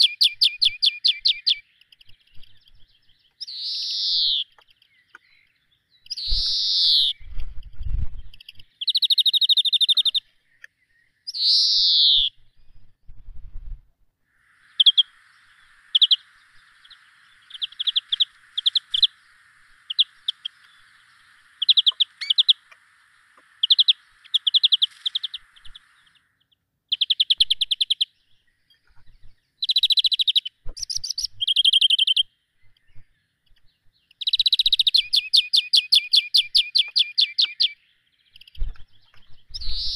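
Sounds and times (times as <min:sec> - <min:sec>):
small birds singing and calling: 0:00.0 - 0:13.0, 0:14.3 - 0:39.9.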